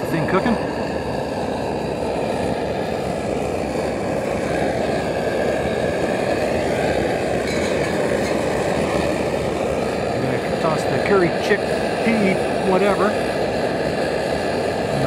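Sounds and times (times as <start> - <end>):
camp stove burning: 0.0 - 15.0.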